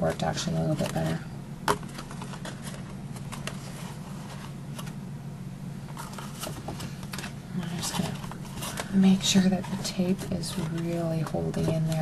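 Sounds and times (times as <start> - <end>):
steady low hum: 0.0 - 12.0
paper rustling: 0.1 - 5.0, 6.0 - 12.0.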